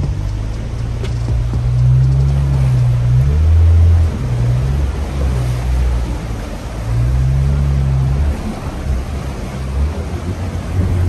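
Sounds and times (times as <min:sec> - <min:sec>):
car engine running under load: 0:00.0 - 0:11.0
water rushing and splashing: 0:00.0 - 0:11.0.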